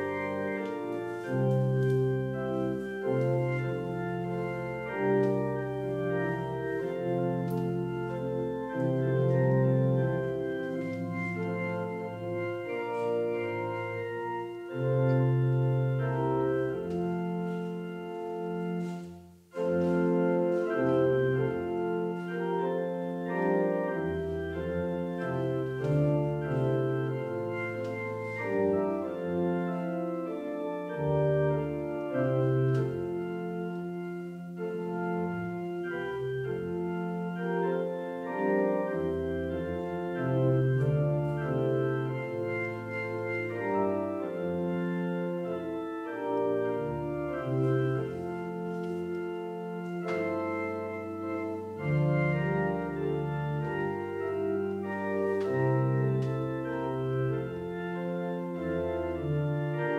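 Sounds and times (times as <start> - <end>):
organ playing hymn chords: 0.0 - 59.9.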